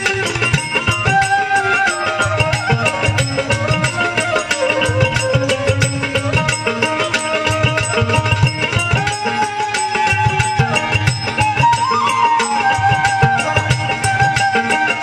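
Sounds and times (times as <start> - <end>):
bamboo flute melody: 0.0 - 15.0
hand drum beat: 0.0 - 15.0.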